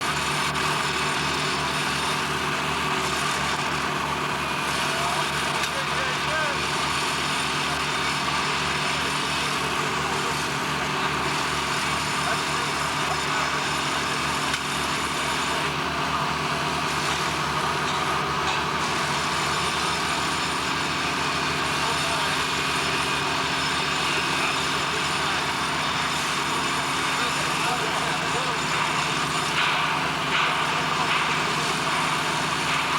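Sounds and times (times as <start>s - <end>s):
heavy machinery droning: 0.0s - 32.9s.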